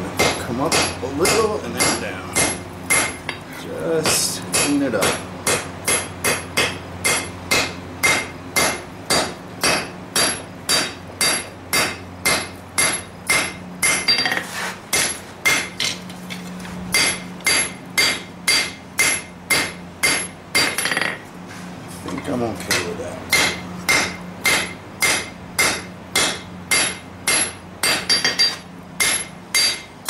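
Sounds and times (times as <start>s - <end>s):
steady low hum: 0.0s - 30.0s
hammer striking metal on anvil: 0.2s - 3.4s, 4.0s - 15.9s, 16.9s - 21.2s, 22.1s - 29.9s.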